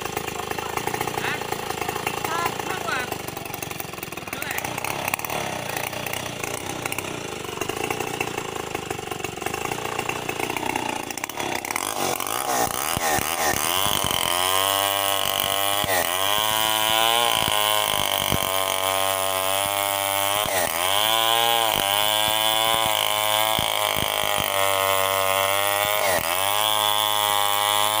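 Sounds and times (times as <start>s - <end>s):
chainsaw cutting tree trunk: 0.0s - 28.0s.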